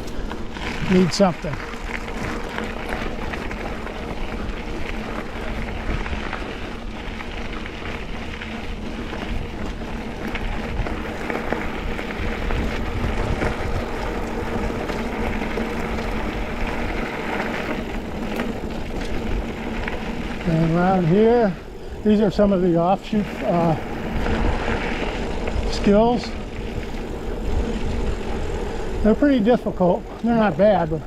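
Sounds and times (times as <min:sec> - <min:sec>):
bike tyres rolling on dirt: 0:00.0 - 0:31.0
wind rumbling on microphone: 0:00.0 - 0:31.0.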